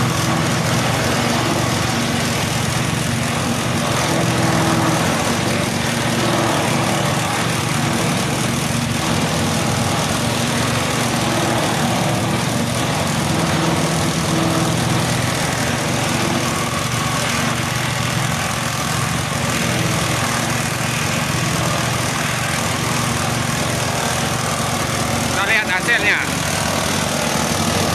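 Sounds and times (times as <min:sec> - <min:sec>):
grass chopper engine running: 0:00.0 - 0:27.9
grass stalks being cut: 0:00.0 - 0:27.9.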